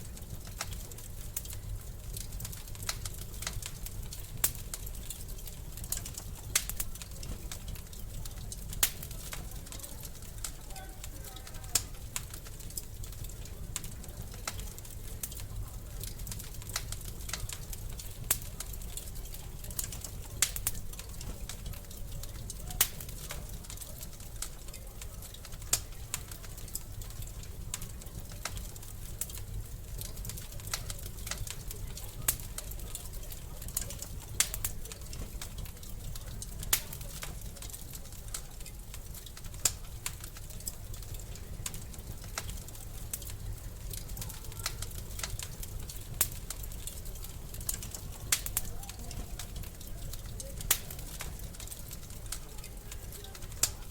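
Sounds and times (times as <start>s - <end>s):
low rumble of flames: 0.0s - 53.9s
sharp fire pops: 0.0s - 53.9s
wood fire crackling: 0.0s - 53.9s.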